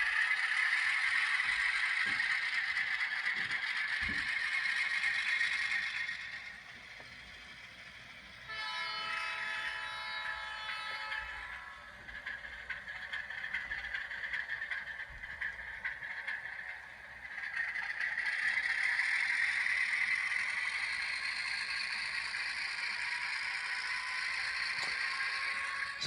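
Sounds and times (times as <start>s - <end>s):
model train running on track: 0.0s - 26.0s.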